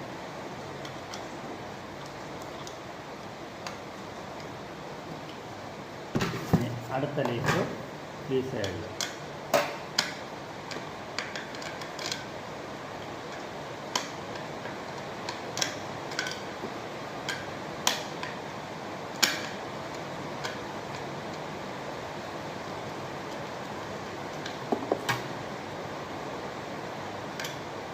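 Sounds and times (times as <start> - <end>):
steady hiss: 0.0 - 27.9.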